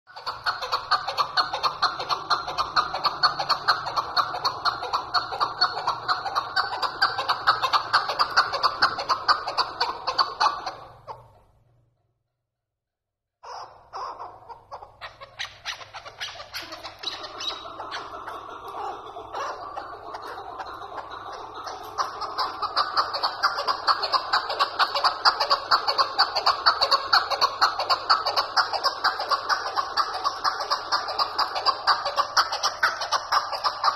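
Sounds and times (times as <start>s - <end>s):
partridge calling rhythmic cackle: 0.1s - 11.5s, 13.4s - 33.9s.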